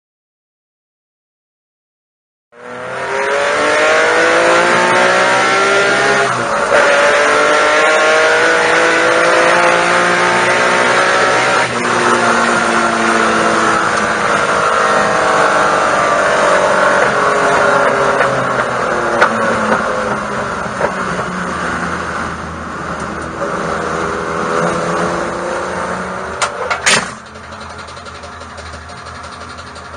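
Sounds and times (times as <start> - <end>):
car engine accelerating hard: 2.6 - 29.9.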